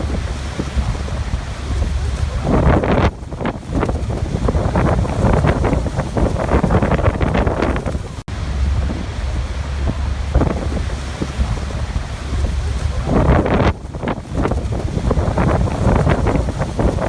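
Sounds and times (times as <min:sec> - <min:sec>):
rushing water: 0:00.0 - 0:17.0
wind buffeting microphone: 0:00.0 - 0:17.0.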